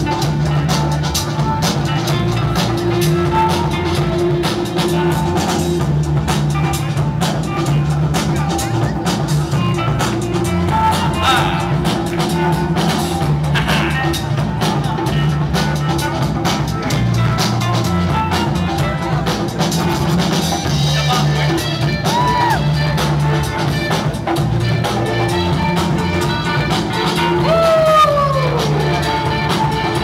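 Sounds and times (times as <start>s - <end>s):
loud music with drum beat and bass: 0.0s - 30.0s.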